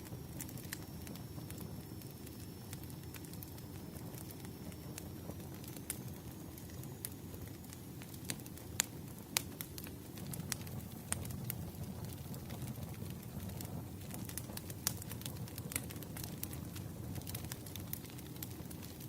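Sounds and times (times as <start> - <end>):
wood fire crackling: 0.0 - 19.0
sharp pops of burning wood: 0.1 - 19.0.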